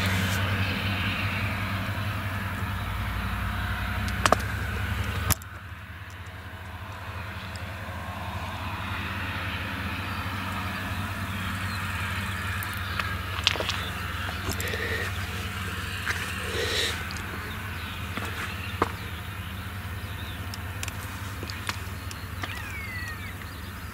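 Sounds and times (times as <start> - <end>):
harvester engine drone: 0.0 - 23.9.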